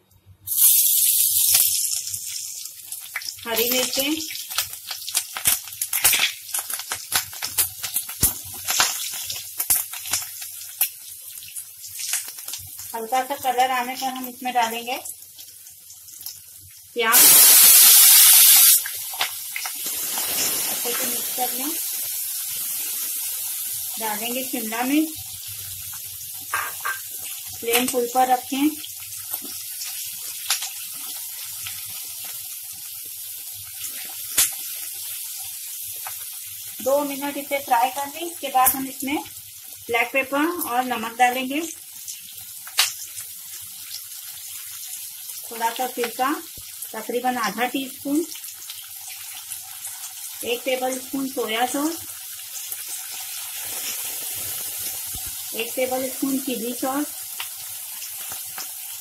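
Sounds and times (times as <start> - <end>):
crackles and pops of frying: 0.1 - 59.0
garlic sizzling in hot oil: 0.4 - 59.0.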